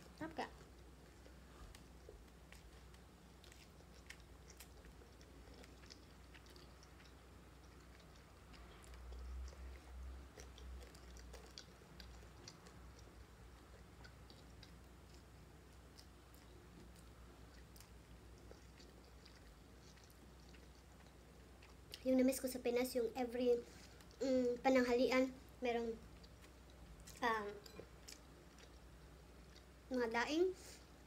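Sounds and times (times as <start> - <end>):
faint chewing: 0.0 - 31.0.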